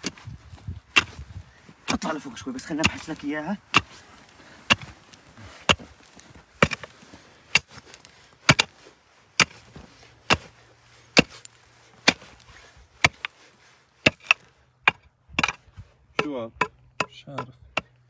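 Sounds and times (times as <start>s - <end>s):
pickaxe striking earth and stones: 0.0s - 13.4s, 14.0s - 15.6s.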